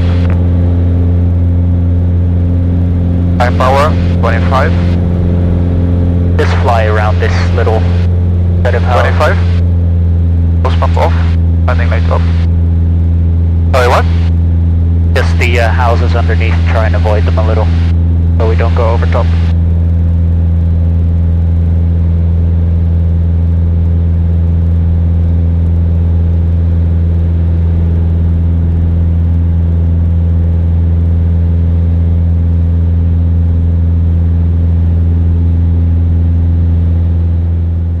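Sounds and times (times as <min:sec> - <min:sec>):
airplane engine and propeller drone: 0:00.0 - 0:38.0.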